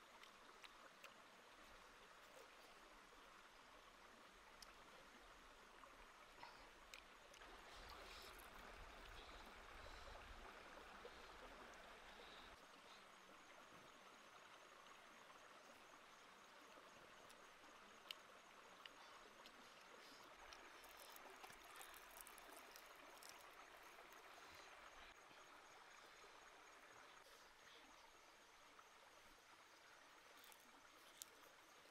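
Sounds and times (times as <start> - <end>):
faint outdoor hiss: 0.0 - 31.9.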